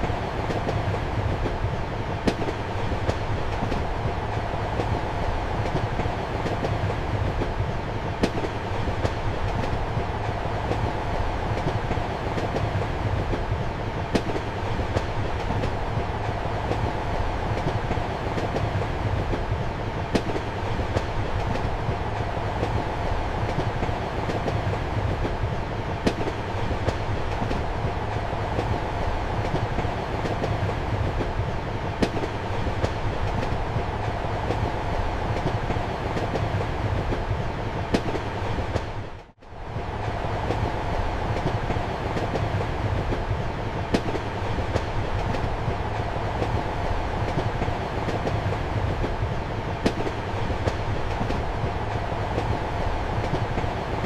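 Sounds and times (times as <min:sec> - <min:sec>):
train rumbling: 0:00.0 - 0:54.0
wheels clicking on rails: 0:00.0 - 0:54.0.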